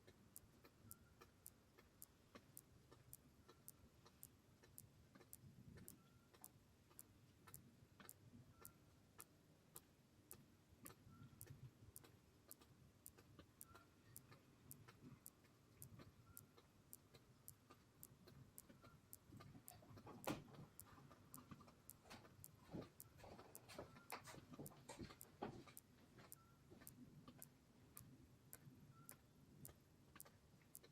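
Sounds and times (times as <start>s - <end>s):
faint even ticking: 0.0s - 30.9s.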